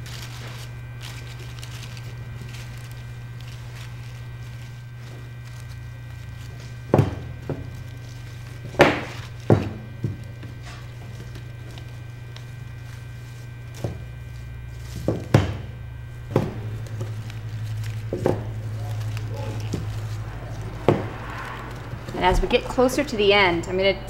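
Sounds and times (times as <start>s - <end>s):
pruning shears snipping: 0.0s - 22.8s
branches and wire handled: 0.0s - 23.3s
steady low hum: 0.0s - 24.0s.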